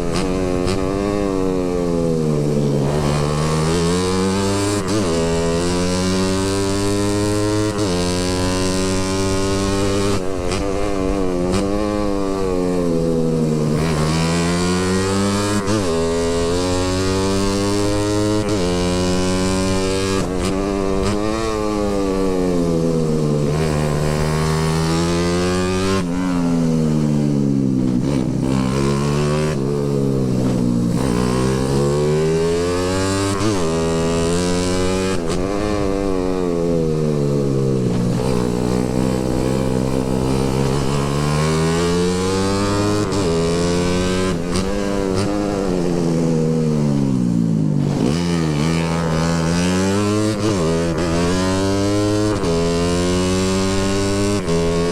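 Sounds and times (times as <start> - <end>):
motorcycle engine revving: 0.0 - 54.9
road and wind noise: 0.0 - 54.9.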